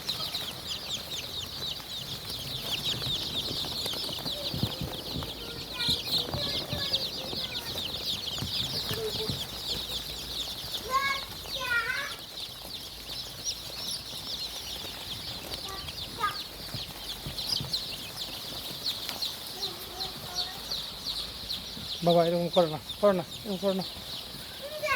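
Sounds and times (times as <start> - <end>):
chicken clucking calls: 0.0 - 24.9
chicks peeping: 0.0 - 24.9.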